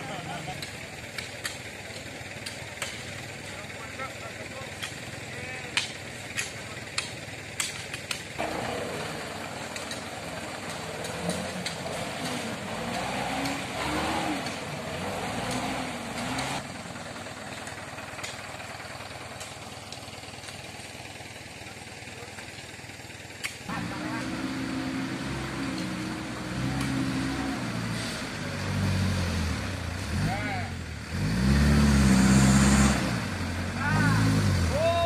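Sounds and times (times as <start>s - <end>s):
truck diesel engine revving: 0.0s - 20.2s, 23.4s - 35.0s.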